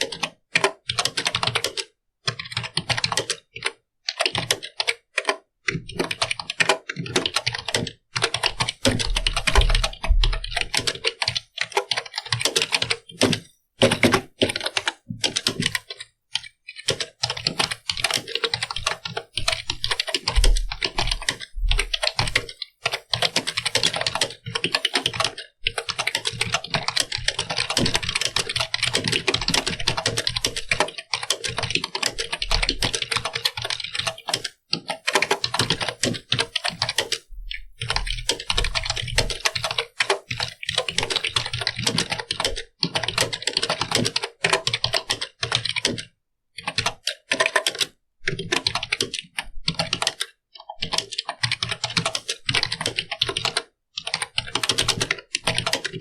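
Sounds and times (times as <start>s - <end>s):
typing on computer keyboard: 0.0s - 56.0s.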